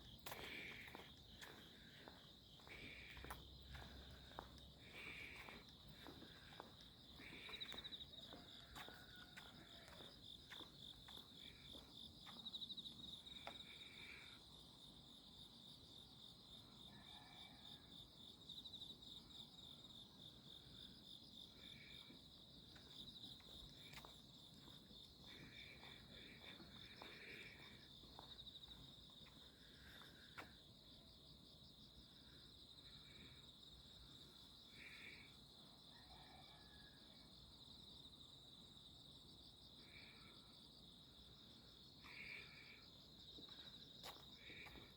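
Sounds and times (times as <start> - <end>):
insects trilling: 0.0 - 15.2, 20.5 - 44.9.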